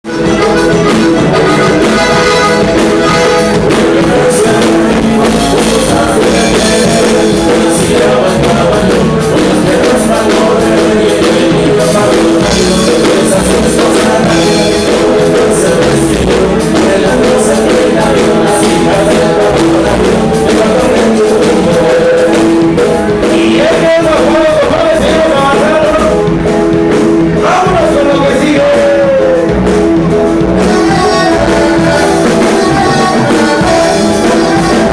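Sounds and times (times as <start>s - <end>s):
band playing: 0.0s - 34.9s.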